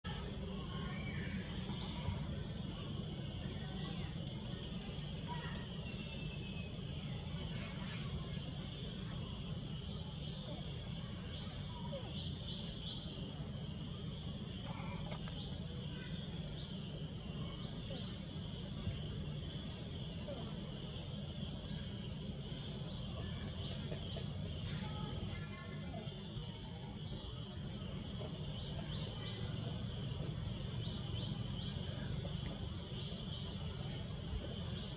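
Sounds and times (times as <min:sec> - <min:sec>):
insects buzzing: 0:00.1 - 0:34.9.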